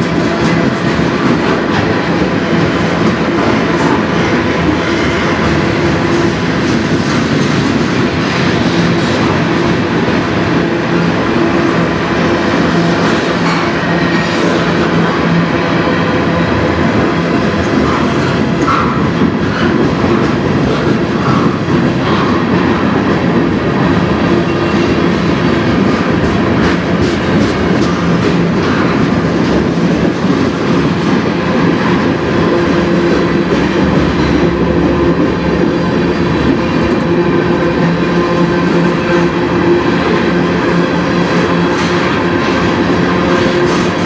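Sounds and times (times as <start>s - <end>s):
low drone: 0.0s - 44.0s
train wheels clattering on rails: 0.0s - 44.0s.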